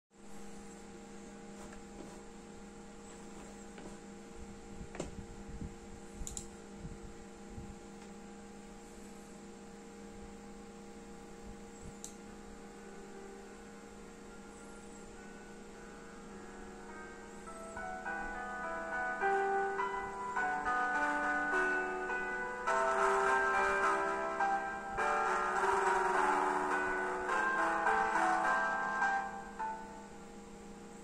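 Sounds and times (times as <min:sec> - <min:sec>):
speaker electrical hum: 0:00.1 - 0:31.0.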